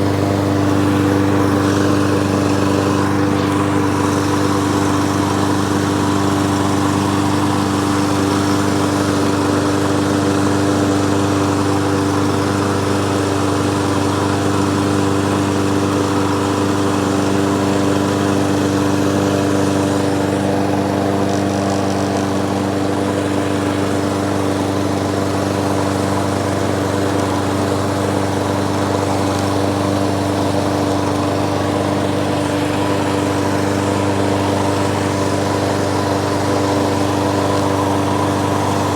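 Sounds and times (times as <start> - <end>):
lawnmower engine running: 0.0 - 38.9.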